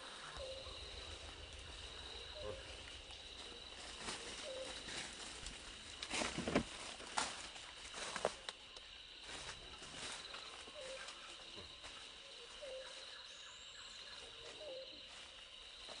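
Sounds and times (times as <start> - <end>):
faint chirps: 0.0 - 6.0, 7.5 - 16.0
insects trilling: 0.0 - 16.0
leaves and branches rustling: 0.0 - 16.0.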